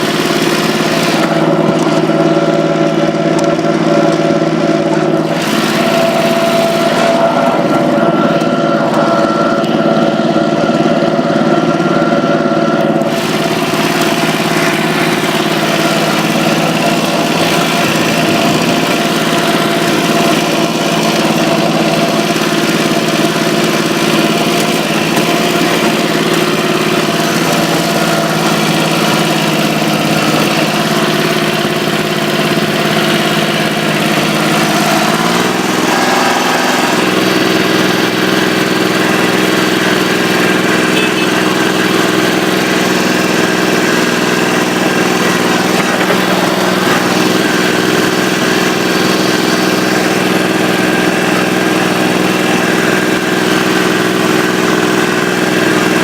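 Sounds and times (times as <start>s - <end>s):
broad rushing noise: 0.0s - 56.0s
tractor engine running: 0.0s - 56.0s.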